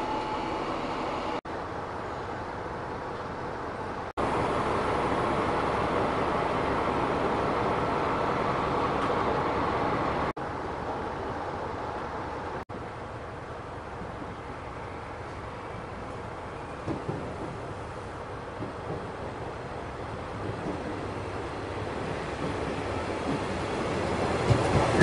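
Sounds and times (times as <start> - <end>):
diesel locomotive engine running: 0.0 - 25.0
distant railway rumble: 0.0 - 25.0.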